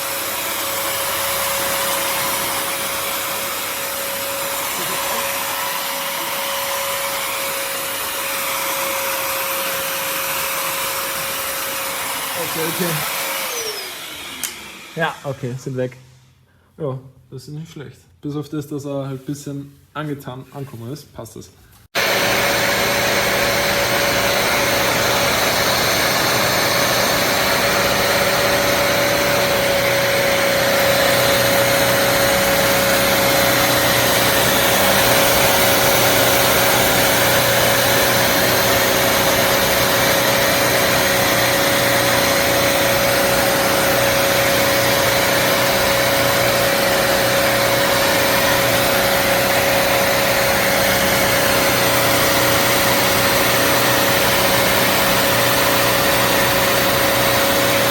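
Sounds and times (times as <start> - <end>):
wet-dry vacuum running: 0.0 - 15.6, 22.0 - 57.9.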